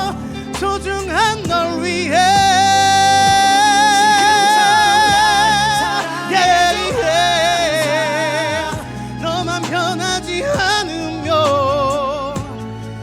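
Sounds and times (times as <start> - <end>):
man singing long high notes: 0.0 - 12.4
live band playing: 0.0 - 13.0.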